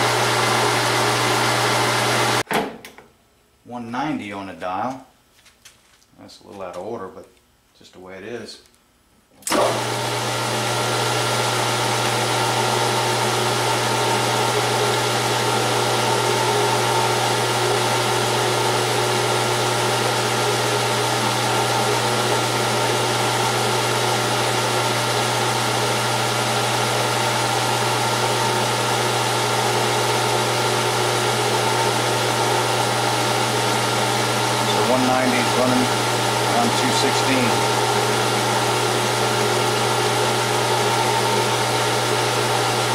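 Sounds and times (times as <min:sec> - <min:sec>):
metal lathe motor humming: 0:00.0 - 0:02.4, 0:09.4 - 0:42.9.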